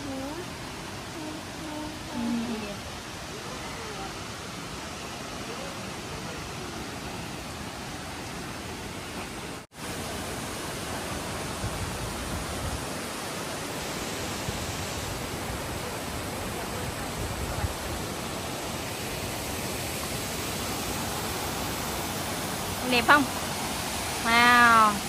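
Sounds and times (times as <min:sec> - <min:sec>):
waterfall rushing onto rocks: 0:00.0 - 0:25.0.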